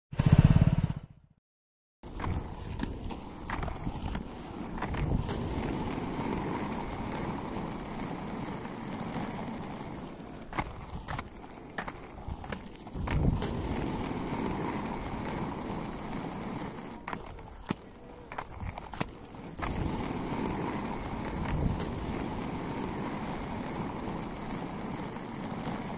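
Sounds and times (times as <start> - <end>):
wheels rolling over rough road: 2.0 - 25.9.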